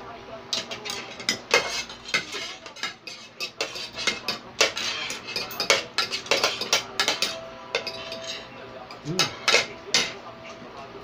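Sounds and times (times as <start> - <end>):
cutlery clinking on plates: 0.5 - 10.2.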